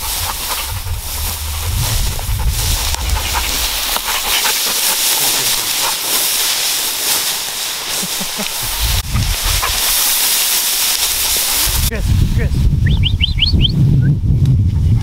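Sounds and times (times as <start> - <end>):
grass and reeds swishing: 0.0 - 12.8
low microphone rumbles: 0.0 - 15.0.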